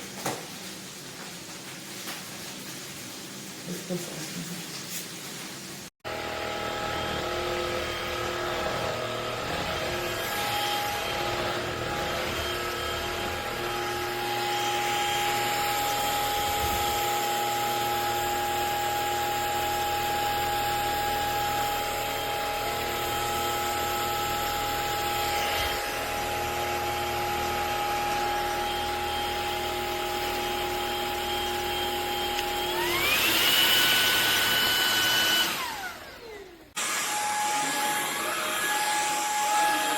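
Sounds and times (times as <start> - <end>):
vacuum cleaner motor whining: 6.0 - 39.9.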